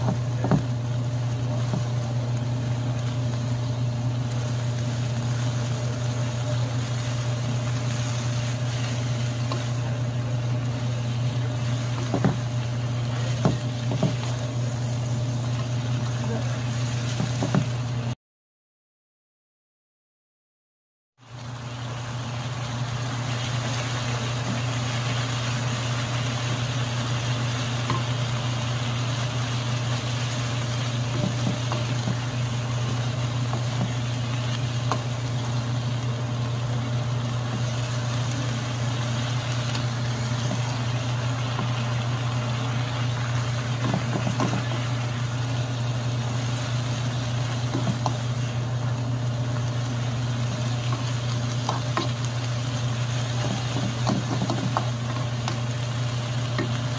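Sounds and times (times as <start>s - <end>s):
food sizzling in a wok: 0.0s - 18.2s, 21.2s - 56.9s.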